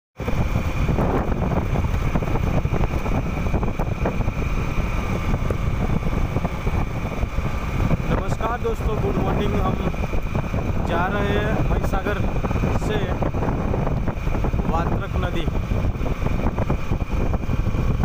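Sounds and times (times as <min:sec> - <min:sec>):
motorcycle engine running: 0:00.2 - 0:18.0
wind rushing over microphone: 0:00.2 - 0:18.0.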